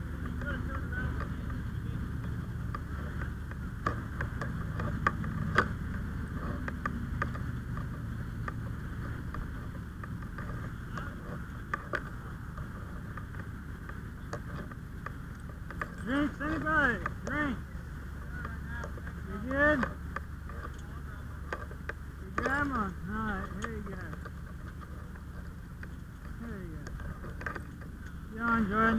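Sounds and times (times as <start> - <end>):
fire crackling and popping: 0.0 - 28.9
low fire rumble: 0.0 - 28.9.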